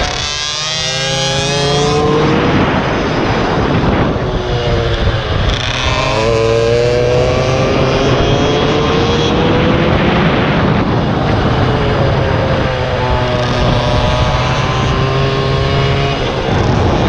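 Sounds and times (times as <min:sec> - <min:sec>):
small motorcycle engine accelerating: 0:00.0 - 0:17.0
steady rushing noise: 0:00.0 - 0:17.0.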